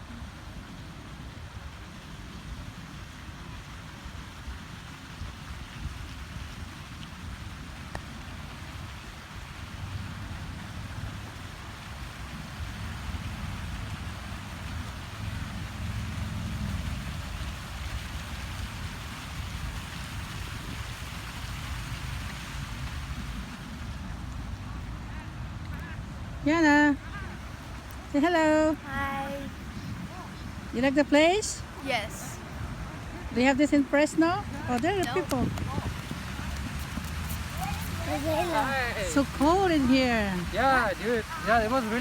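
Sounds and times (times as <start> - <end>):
wind rumbling on microphone: 0.0 - 28.8, 29.5 - 31.8, 32.4 - 42.0
water fountain splashing: 0.0 - 42.0.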